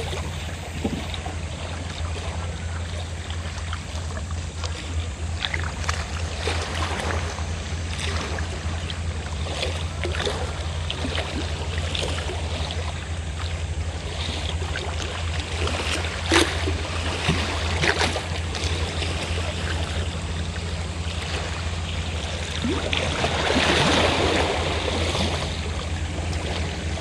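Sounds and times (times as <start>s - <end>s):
boat engine droning: 0.0s - 27.0s
sea waves lapping: 0.0s - 27.0s.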